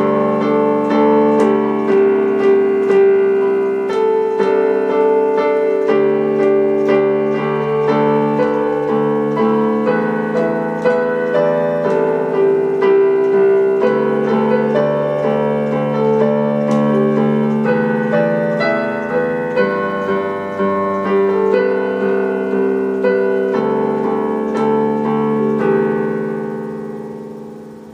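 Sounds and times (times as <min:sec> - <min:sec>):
gentle piano piece: 0:00.0 - 0:27.9.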